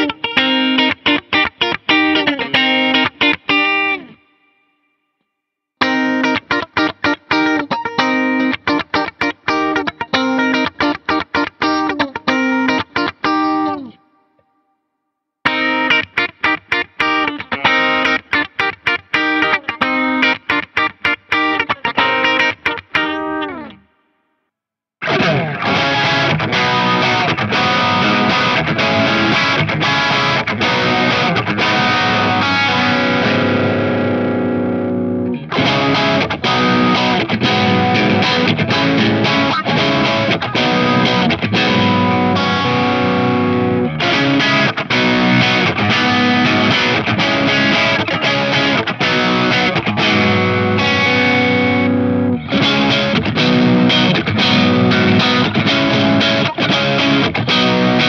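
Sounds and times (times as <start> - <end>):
overdriven electric guitar: 0.0 - 4.7, 5.8 - 14.5, 15.4 - 24.0, 25.0 - 58.0.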